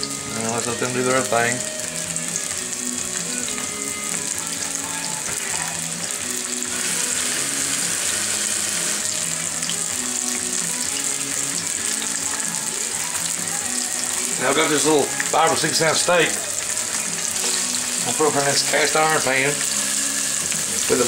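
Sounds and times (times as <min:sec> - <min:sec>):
background music: 0:00.0 - 0:21.0
onion rings deep-frying: 0:00.0 - 0:21.0.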